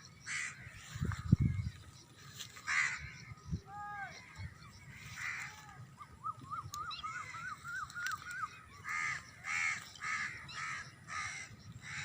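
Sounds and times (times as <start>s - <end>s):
bird chirping: 0.0s - 11.9s
harsh bird calls: 0.0s - 12.0s.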